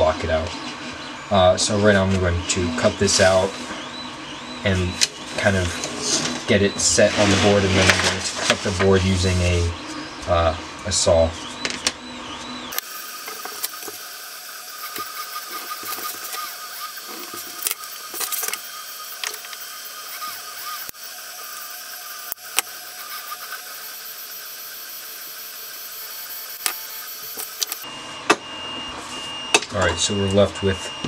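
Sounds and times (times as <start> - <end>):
steady hum: 0.0 - 28.8.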